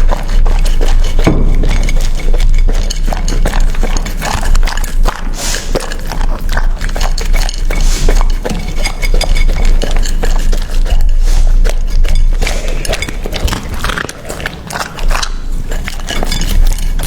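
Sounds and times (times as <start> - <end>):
dog crunching and chewing food: 0.0 - 17.0.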